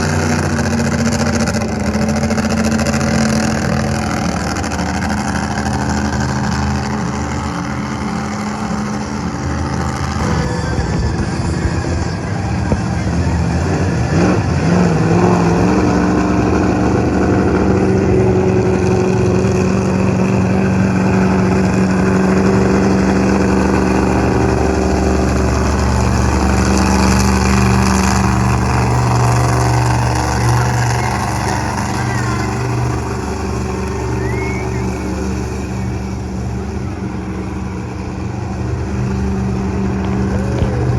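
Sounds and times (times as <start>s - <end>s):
monster truck engine revving: 0.0s - 40.9s.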